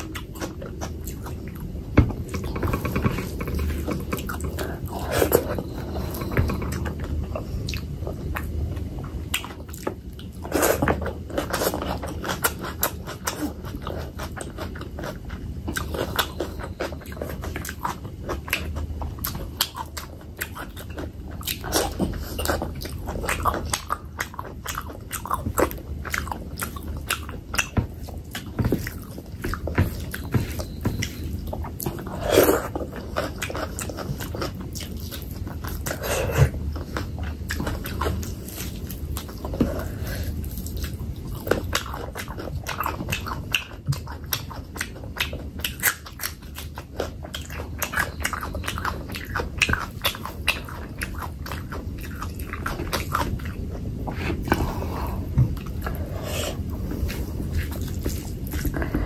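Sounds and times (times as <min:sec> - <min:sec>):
close-miked chewing: 0:00.0 - 0:59.0.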